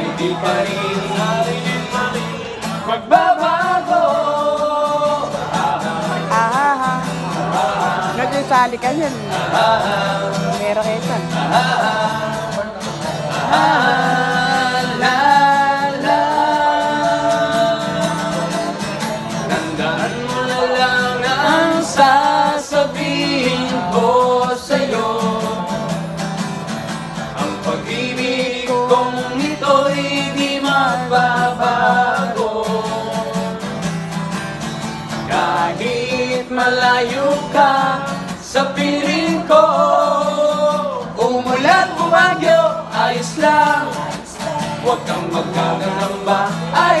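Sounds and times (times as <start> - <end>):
man singing: 0.0 - 26.2, 27.2 - 33.9, 35.2 - 47.0
strummed acoustic guitar: 0.0 - 47.0.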